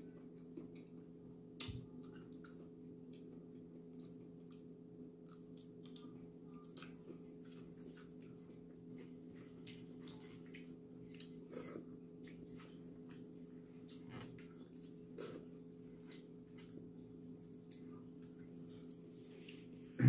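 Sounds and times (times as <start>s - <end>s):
chewing and mouth sounds: 0.0s - 19.7s.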